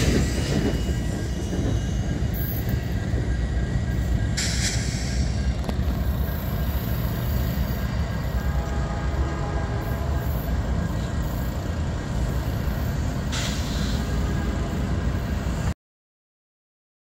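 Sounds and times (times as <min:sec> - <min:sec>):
freight train rumbling past: 0:00.0 - 0:15.7.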